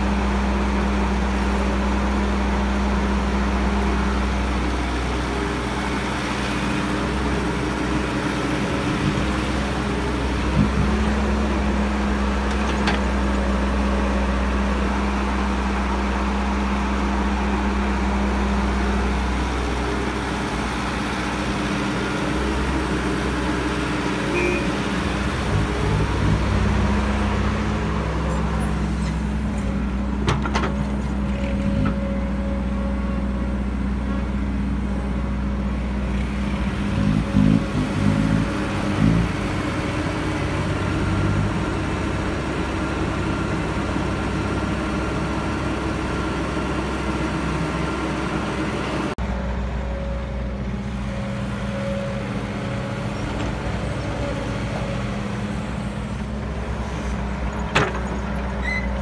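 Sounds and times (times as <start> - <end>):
diesel machinery running: 0.0 - 59.0.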